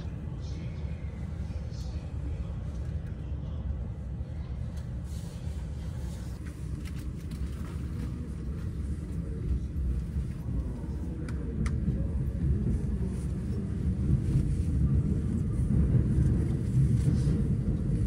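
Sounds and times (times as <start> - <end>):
train rumble from inside: 0.0 - 18.0.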